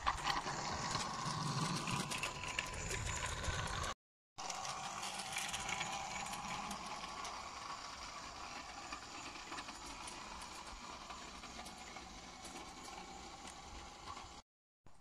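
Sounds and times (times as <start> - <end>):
model locomotive motor whirring: 0.0 - 14.4
wheels clicking on rails: 0.0 - 14.4.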